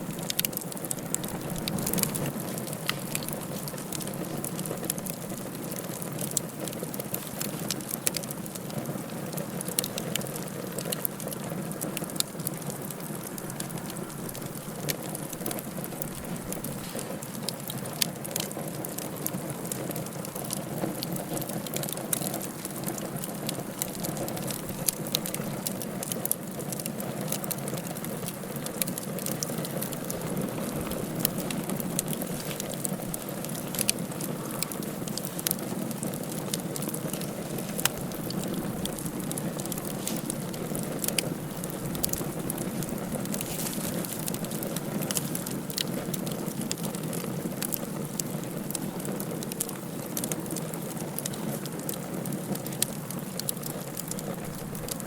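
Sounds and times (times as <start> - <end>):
low rush of flame: 0.0 - 50.8
wood fire crackling and popping: 0.0 - 55.0.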